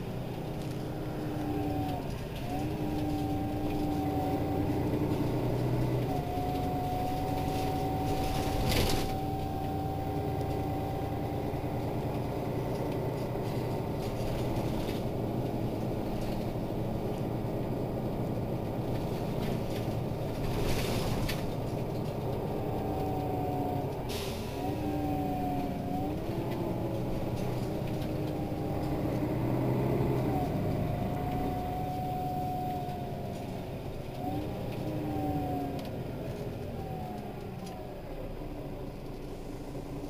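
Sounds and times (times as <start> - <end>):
bus diesel engine drone: 0.0 - 40.0
drivetrain whine: 0.0 - 40.0.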